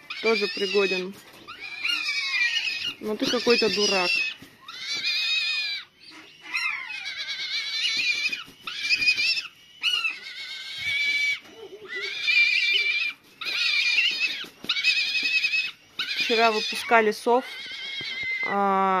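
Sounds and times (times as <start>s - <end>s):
bird whistling screams: 0.0s - 18.5s.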